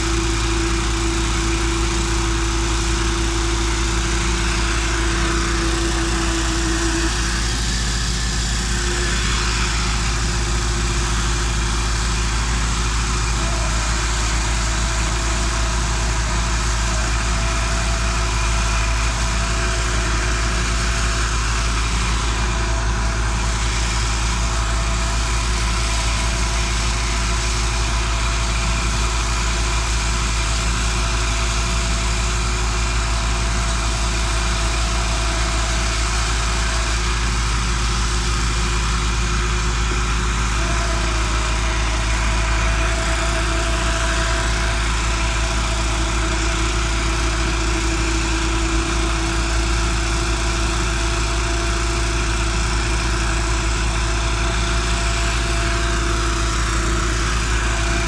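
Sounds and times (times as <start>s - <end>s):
concrete mixer pump engine running: 0.0s - 58.0s.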